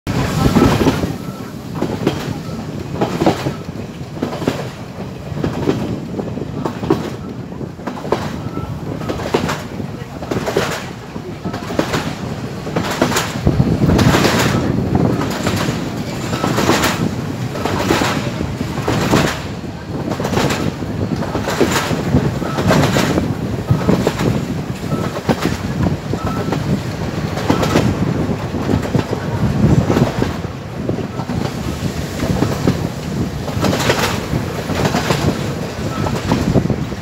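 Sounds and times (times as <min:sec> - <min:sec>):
train rumble: 0:00.0 - 0:37.0
wheel clacks over rail joints: 0:00.1 - 0:37.0.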